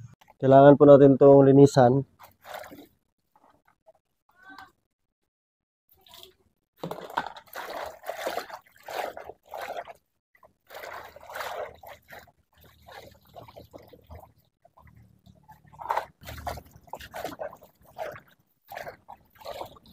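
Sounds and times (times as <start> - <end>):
water splashing and trickling: 1.9 - 4.7, 5.9 - 19.9.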